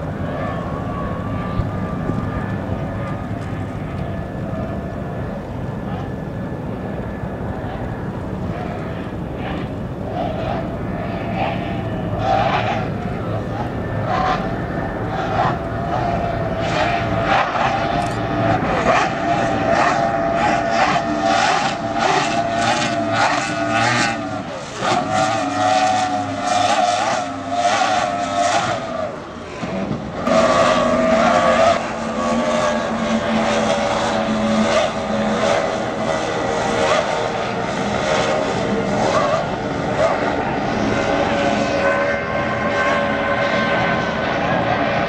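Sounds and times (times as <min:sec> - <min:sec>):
powerboat engines racing: 0:00.0 - 0:45.0.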